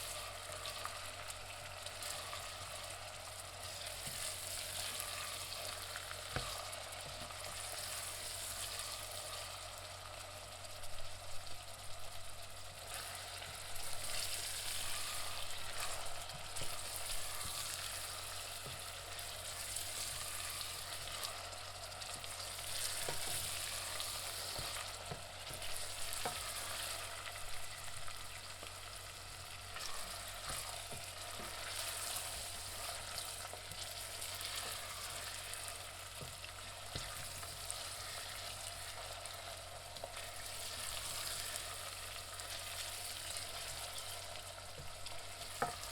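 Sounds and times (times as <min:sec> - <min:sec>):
onions sizzling in a pan: 0:00.0 - 0:45.9.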